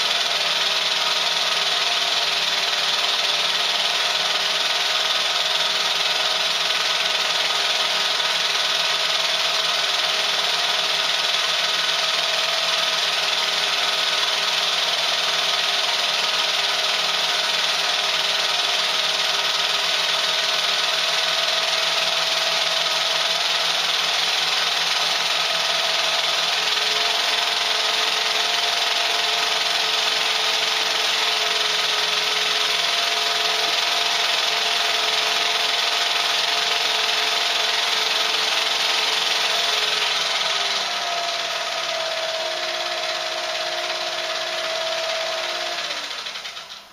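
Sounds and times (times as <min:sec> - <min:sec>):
film projector whirring: 0:00.0 - 0:46.9.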